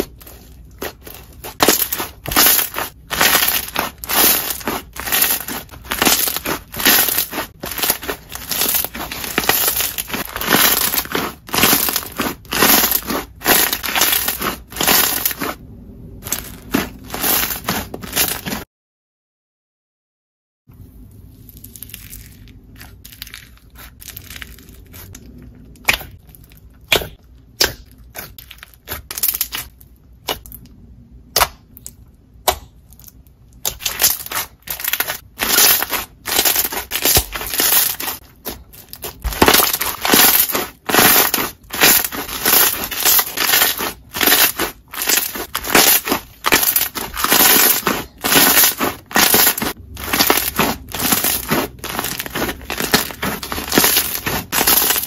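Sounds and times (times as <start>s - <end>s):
slime popping and crunching: 0.0s - 15.6s, 16.2s - 18.6s, 21.4s - 55.0s.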